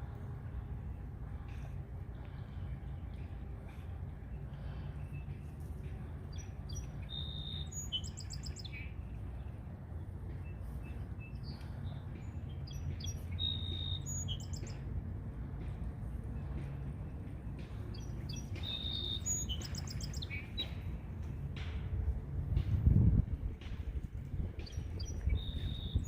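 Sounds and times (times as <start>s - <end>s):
songbird singing: 0.0s - 21.8s, 24.2s - 26.0s
steady low rumble: 0.0s - 26.0s.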